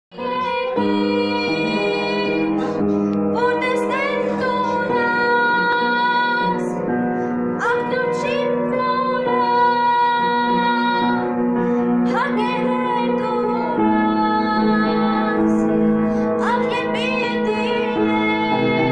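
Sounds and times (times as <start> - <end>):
girl singing: 0.1 - 6.9, 7.6 - 11.3, 12.0 - 18.9
upright piano: 0.1 - 18.9.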